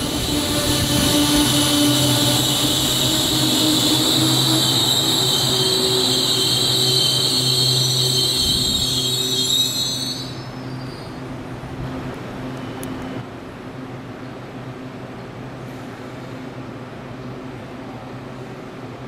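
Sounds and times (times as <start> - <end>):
electric train running past: 0.0 - 19.0.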